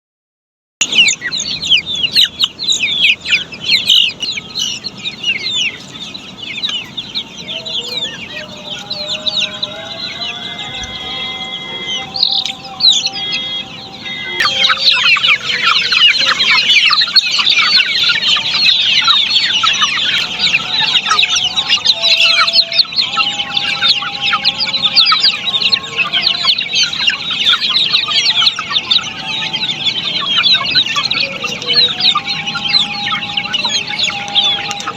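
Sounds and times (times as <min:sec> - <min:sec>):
chicks peeping: 0:00.8 - 0:34.9
lower longer calls: 0:00.8 - 0:34.9.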